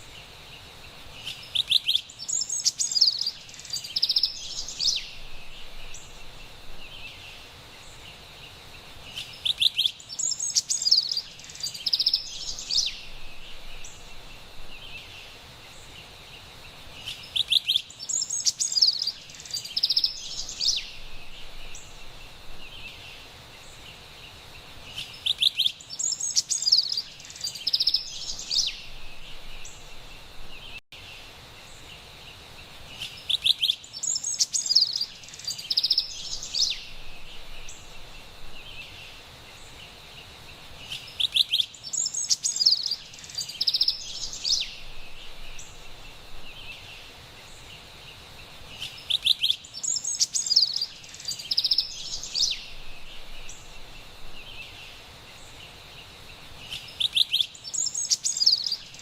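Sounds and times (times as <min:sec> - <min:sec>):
wren singing: 0:00.0 - 0:16.2, 0:16.9 - 0:30.8, 0:32.9 - 0:59.0
faint steady hiss: 0:00.0 - 0:59.0.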